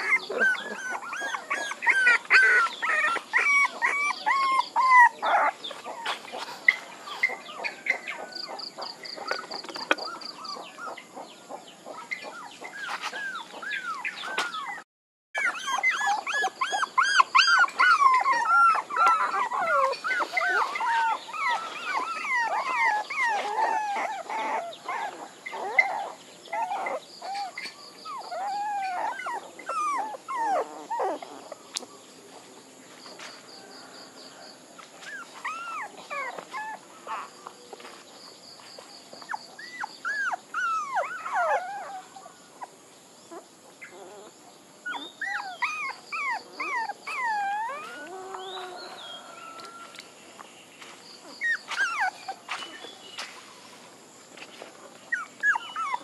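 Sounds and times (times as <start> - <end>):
puppies whimpering and crying: 0.0 - 14.8, 15.4 - 31.9, 35.0 - 37.4, 39.2 - 50.0, 51.2 - 53.4, 55.1 - 56.0.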